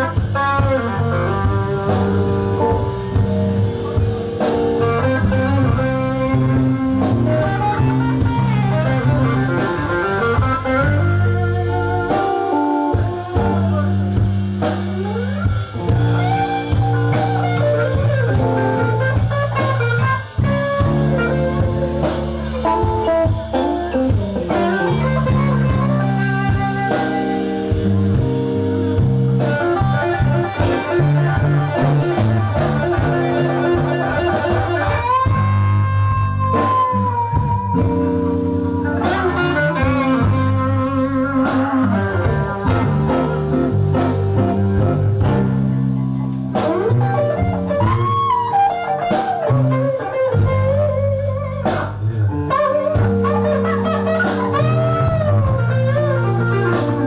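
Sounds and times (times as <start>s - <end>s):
bass guitar: 0.0s - 57.0s
drum kit: 0.0s - 57.0s
electric guitar lead: 0.0s - 57.0s.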